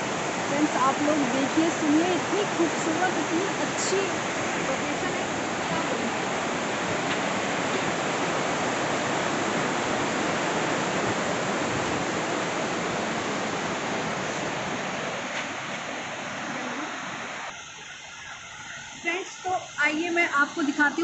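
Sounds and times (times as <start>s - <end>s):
river water rushing over rapids: 0.0s - 21.0s.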